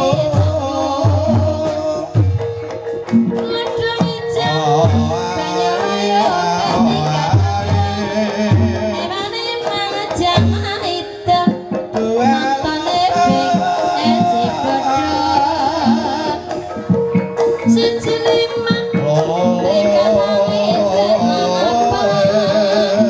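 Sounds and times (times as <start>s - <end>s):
metallophone tones: 0.0s - 23.0s
person singing wavering melody: 0.0s - 23.0s.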